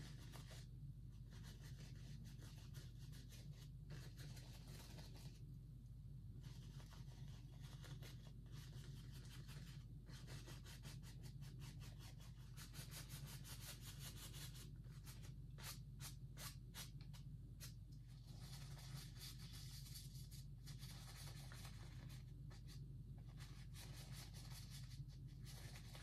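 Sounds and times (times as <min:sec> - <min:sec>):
paintbrush strokes on canvas: 0:00.0 - 0:05.4, 0:06.4 - 0:26.0
steady low hum: 0:00.0 - 0:26.0.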